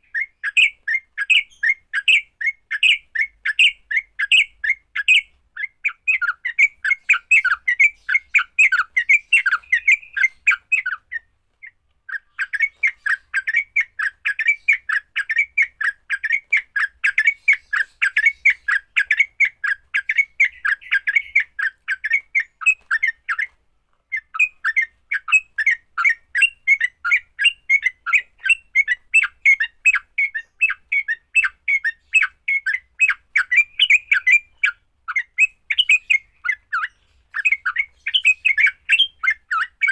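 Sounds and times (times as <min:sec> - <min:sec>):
bird scolding chatter: 0:00.0 - 0:39.9.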